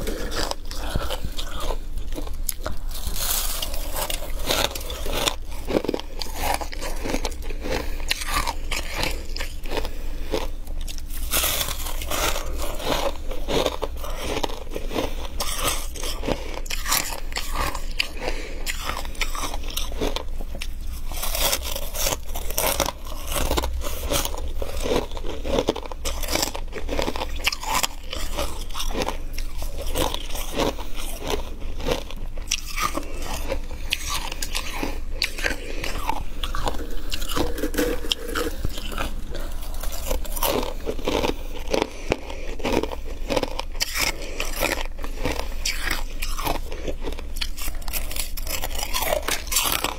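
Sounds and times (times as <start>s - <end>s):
chewing crunchy frost: 0.0s - 49.9s.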